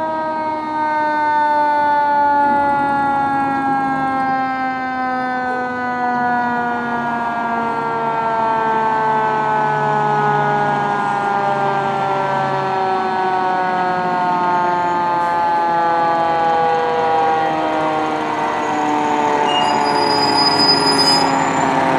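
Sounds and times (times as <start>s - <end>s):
fire engine siren: 0.0s - 21.9s
truck engine rumbling: 2.1s - 21.9s.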